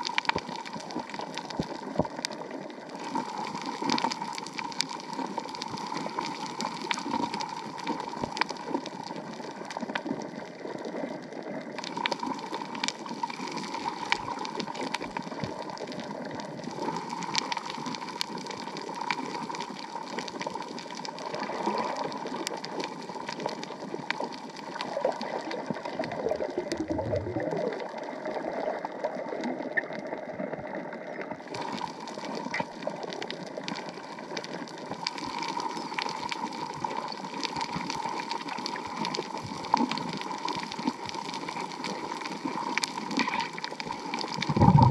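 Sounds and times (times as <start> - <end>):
gurgling water rush: 0.0 - 10.4, 11.1 - 30.2, 31.0 - 44.9
sharp crackling clicks: 0.0 - 10.4, 11.8 - 28.0, 31.5 - 44.9.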